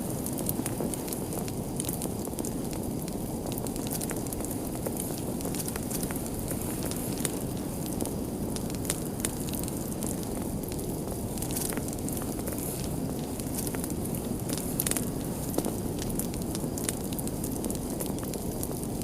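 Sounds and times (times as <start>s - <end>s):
fire crackling and popping: 0.0s - 19.0s
low rush of burning: 0.0s - 19.0s.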